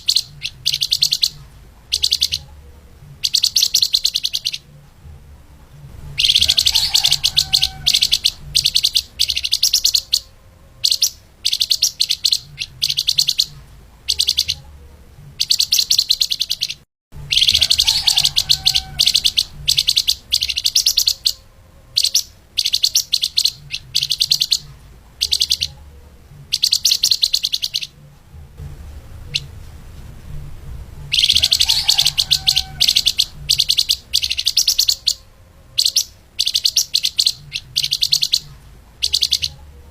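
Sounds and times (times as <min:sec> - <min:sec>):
songbird high chattering song: 0:00.0 - 0:05.0, 0:05.7 - 0:28.0, 0:29.2 - 0:29.6, 0:31.0 - 0:39.9.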